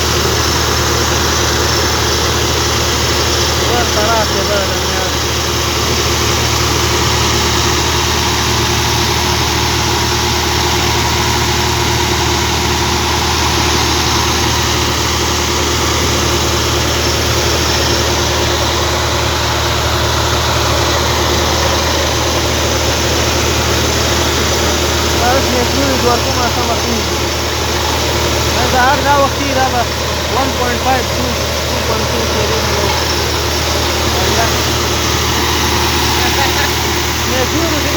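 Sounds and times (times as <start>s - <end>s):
drilling rig engine drone: 0.0s - 37.9s.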